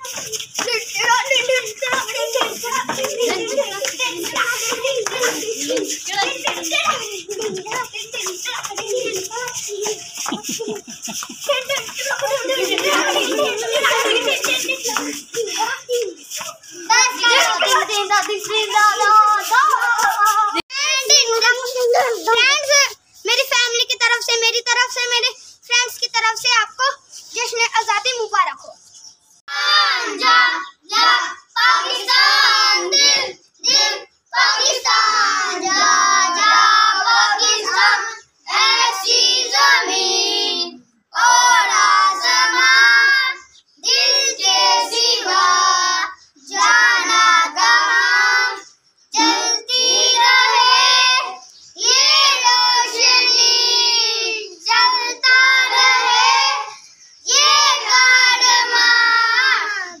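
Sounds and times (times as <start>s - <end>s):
children singing together: 0.0s - 20.6s, 29.5s - 60.0s.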